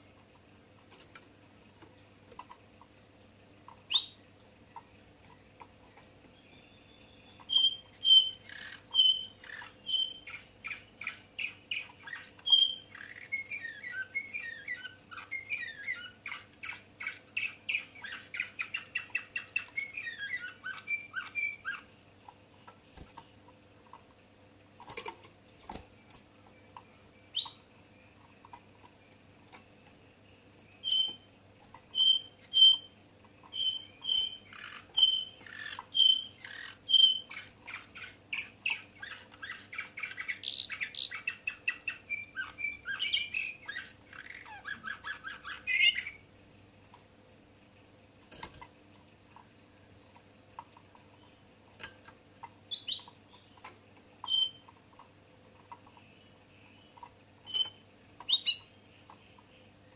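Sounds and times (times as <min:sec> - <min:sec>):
canary chirping and trilling: 0:00.0 - 0:59.9.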